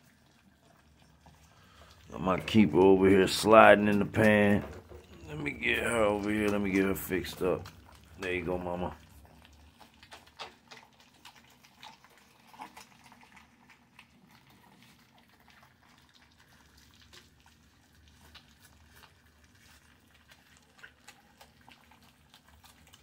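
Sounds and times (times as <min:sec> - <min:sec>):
puppies lapping and smacking food: 0:00.0 - 0:23.0.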